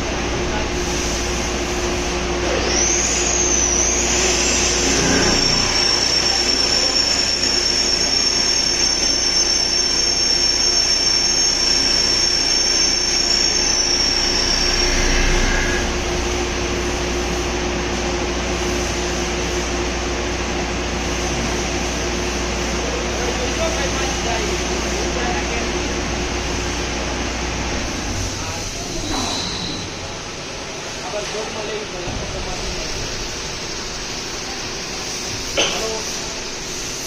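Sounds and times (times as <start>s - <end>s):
machine hum: 0.0s - 37.0s
machine spindle whine: 0.0s - 37.0s.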